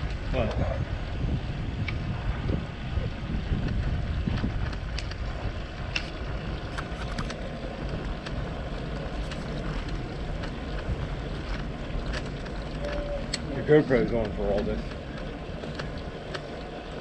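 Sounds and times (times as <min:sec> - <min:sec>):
bicycle tyres rolling on pavement: 0:00.0 - 0:17.0
wind buffeting microphone: 0:00.0 - 0:17.0.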